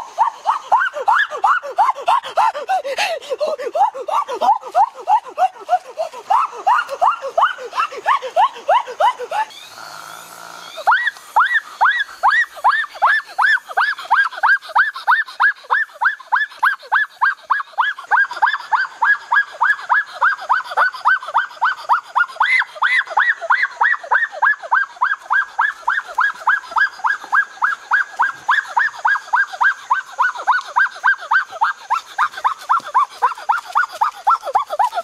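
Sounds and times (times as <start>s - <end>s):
animal calling: 0.0s - 2.8s, 3.4s - 9.9s, 10.6s - 35.0s.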